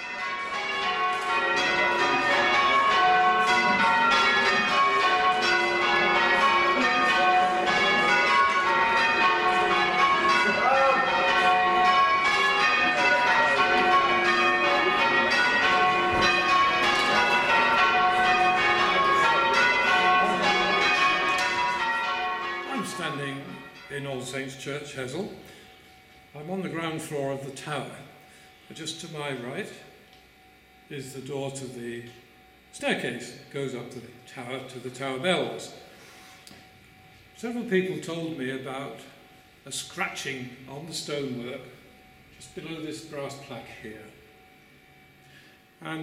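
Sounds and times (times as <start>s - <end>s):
church bells ringing in changes: 0.0s - 28.1s, 36.9s - 46.0s.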